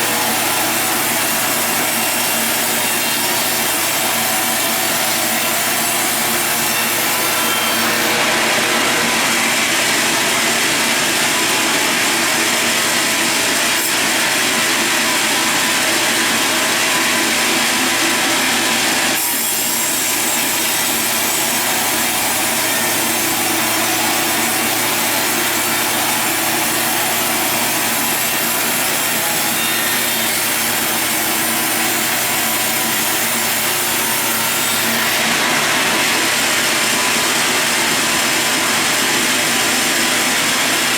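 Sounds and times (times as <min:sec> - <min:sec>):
sawmill saw cutting log: 0:00.0 - 0:40.9.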